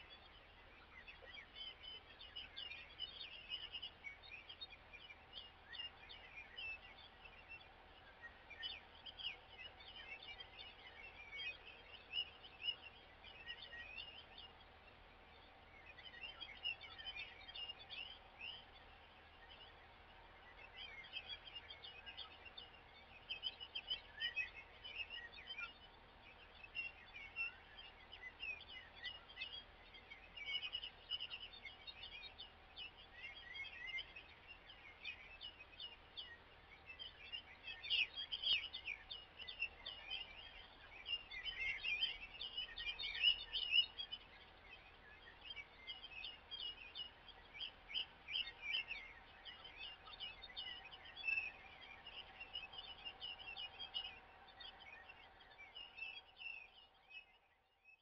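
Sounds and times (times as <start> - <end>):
faint outdoor background noise: 0.0 - 58.0
songbirds chirping and singing: 0.0 - 58.0.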